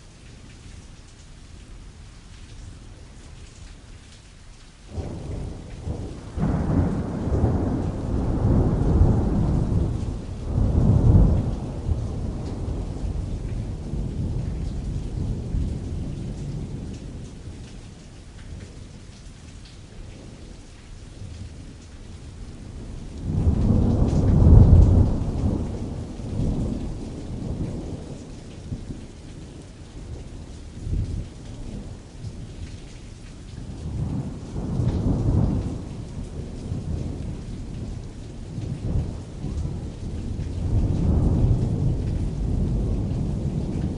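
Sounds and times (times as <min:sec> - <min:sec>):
rain pattering on canvas: 0:00.0 - 0:43.9
distant rolling thunder: 0:04.9 - 0:43.9.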